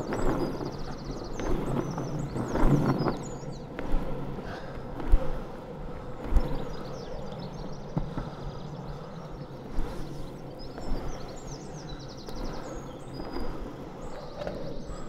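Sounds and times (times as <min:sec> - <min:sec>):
longboard wheels rolling on tarmac: 0:00.0 - 0:15.0.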